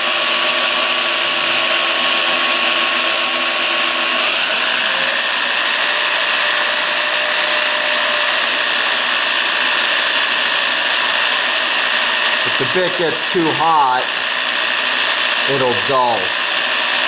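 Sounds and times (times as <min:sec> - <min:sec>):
electric drill whining: 0:00.0 - 0:17.0.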